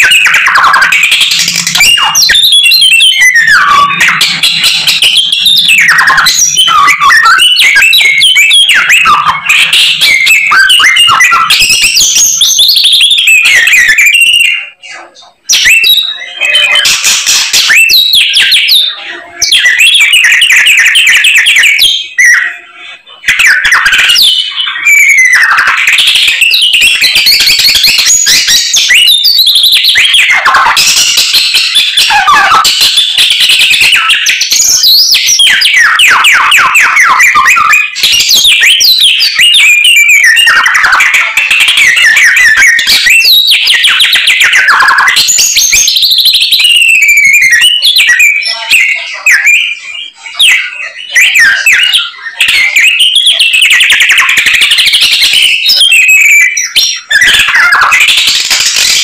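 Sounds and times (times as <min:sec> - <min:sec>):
songbird singing trills: 0:00.0 - 0:59.0.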